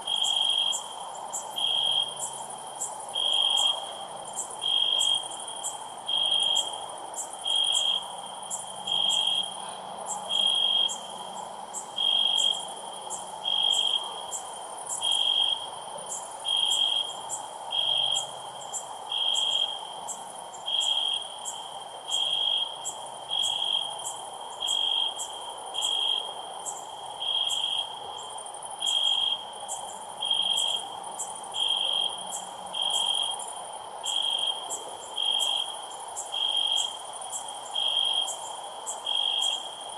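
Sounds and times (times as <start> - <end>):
loud high cricket chirp: 0.0 - 39.9.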